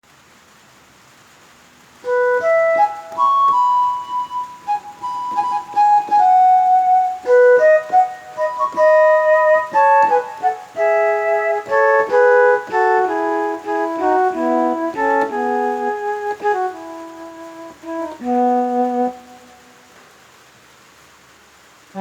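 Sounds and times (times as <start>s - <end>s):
keyboard playing melodic phrase: 2.0s - 19.7s.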